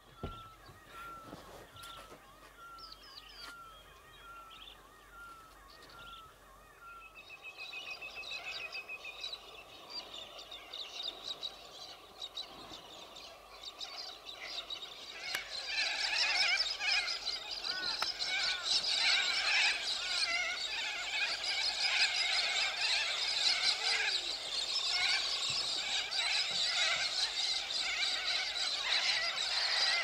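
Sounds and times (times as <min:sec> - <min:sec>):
chorus of bird calls: 0:00.0 - 0:30.0.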